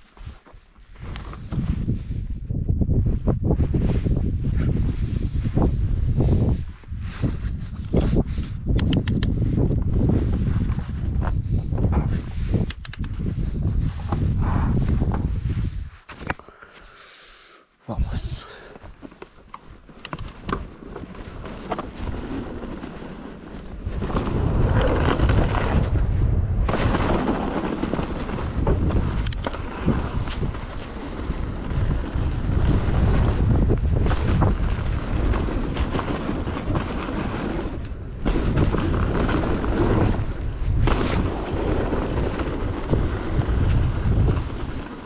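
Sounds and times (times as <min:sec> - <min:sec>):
bike tyres rumbling over dirt: 0:00.0 - 0:08.7, 0:09.3 - 0:12.6, 0:13.2 - 0:16.2, 0:18.9 - 0:45.0
wind buffeting the microphone: 0:00.2 - 0:16.4, 0:20.1 - 0:45.0.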